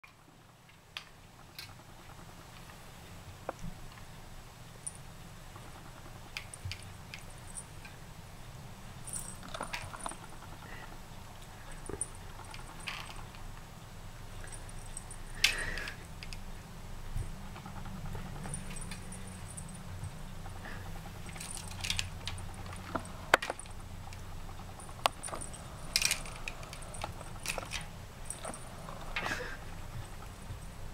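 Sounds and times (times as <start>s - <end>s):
toy aerial clicking and rattling: 0.0s - 2.8s, 5.6s - 8.0s, 9.0s - 10.7s, 11.4s - 13.6s, 14.4s - 16.5s, 17.2s - 30.9s.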